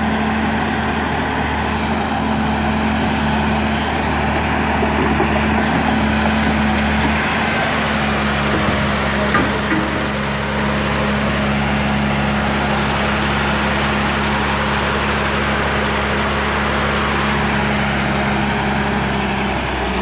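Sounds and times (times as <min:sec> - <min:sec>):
large diesel engine droning: 0:00.0 - 0:20.0.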